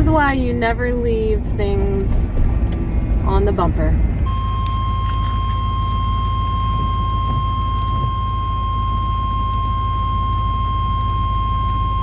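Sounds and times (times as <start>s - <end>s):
low vehicle rumble: 0.0s - 12.0s
high-pitched whine: 2.2s - 12.0s.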